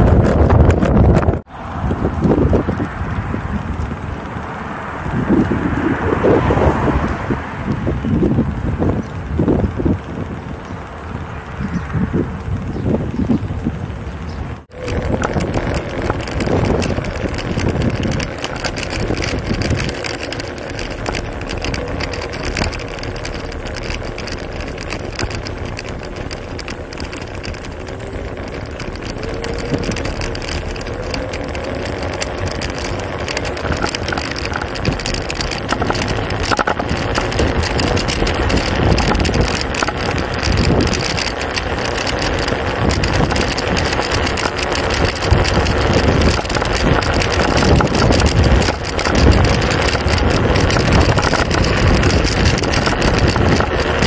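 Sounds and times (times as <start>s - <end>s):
scooter wheels rumbling on bricks: 0.0s - 54.0s
wind on microphone: 0.0s - 54.0s.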